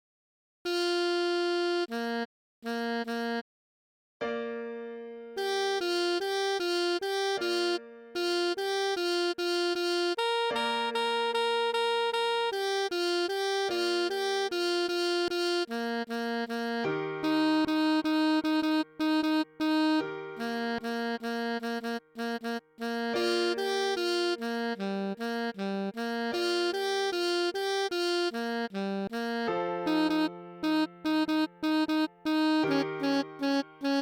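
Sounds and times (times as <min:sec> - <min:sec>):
synthesized alto sax melody: 0:00.7 - 0:03.5, 0:04.2 - 0:34.0.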